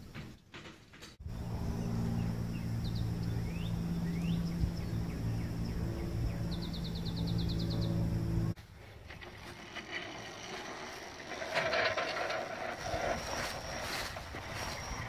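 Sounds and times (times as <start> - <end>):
birds chirping: 1.2 - 8.6, 10.2 - 15.0
engine running steadily: 1.2 - 15.0.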